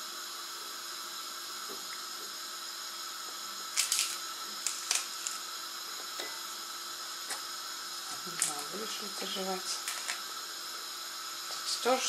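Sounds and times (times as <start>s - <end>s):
electronic hiss and whine: 0.0s - 12.0s.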